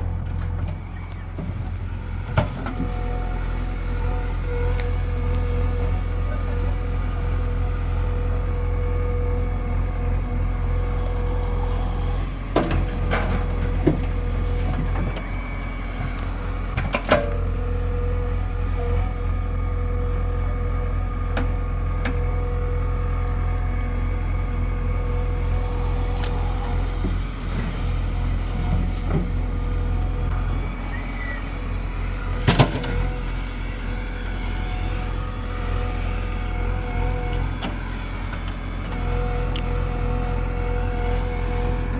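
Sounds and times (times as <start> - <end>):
diesel machinery rumbling: 0.0 - 41.9.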